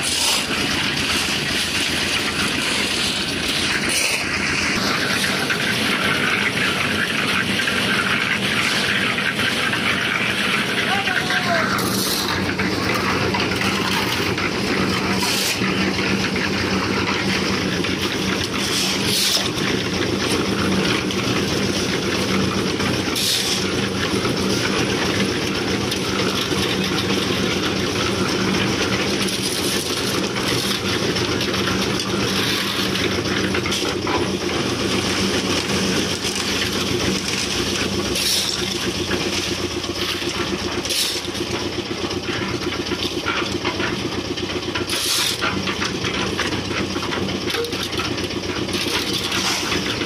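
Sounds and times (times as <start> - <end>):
concrete mixer engine humming: 0.0 - 50.0
drum churning gravel and concrete: 0.0 - 50.0
shovels scraping iron pans: 0.0 - 50.0.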